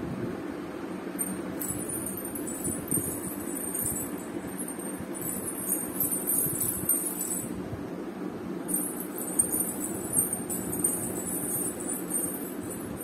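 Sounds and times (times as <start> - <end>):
steady low hum: 0.0 - 13.0
small metal bells jingling: 1.2 - 7.6, 8.7 - 13.0.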